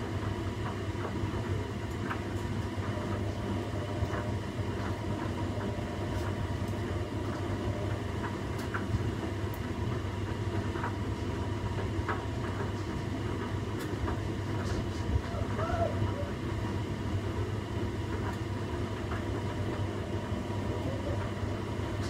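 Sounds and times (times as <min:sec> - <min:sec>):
washing machine drum rumbling: 0:00.0 - 0:22.0.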